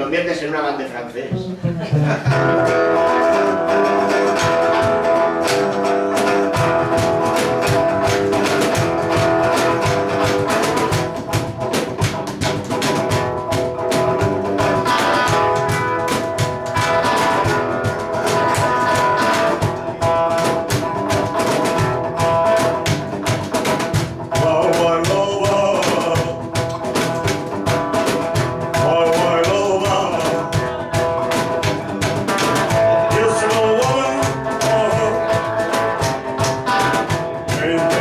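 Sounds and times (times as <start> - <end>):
electric guitar strummed: 1.3 - 38.0
fast percussive beat: 1.4 - 38.0.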